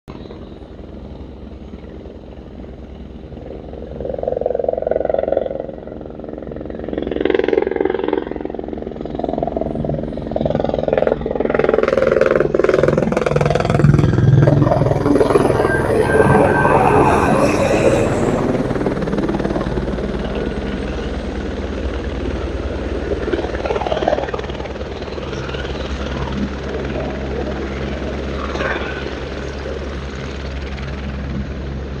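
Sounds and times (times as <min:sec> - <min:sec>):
helicopter rotor and engine: 0:00.1 - 0:32.0.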